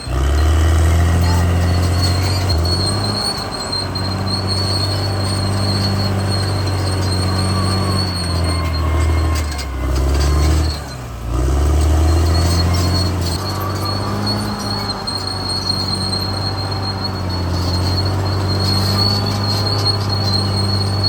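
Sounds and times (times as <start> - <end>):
bulldozer diesel engine under load: 0.0 - 21.0.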